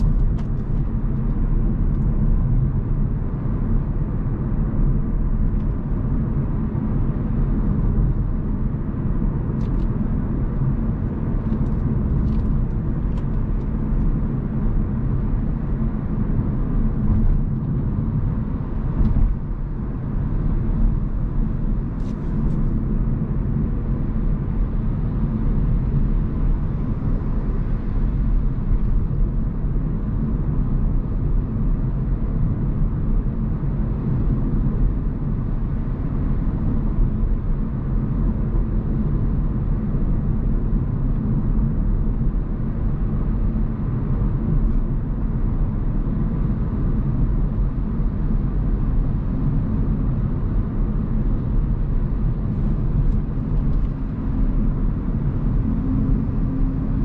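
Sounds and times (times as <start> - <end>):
road and tyre rumble: 0.0 - 57.0.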